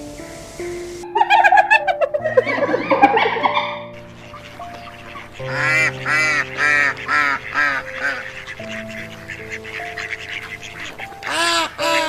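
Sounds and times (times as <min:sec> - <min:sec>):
background music with held notes: 0:00.0 - 0:12.0
waterfowl honking: 0:01.0 - 0:12.0.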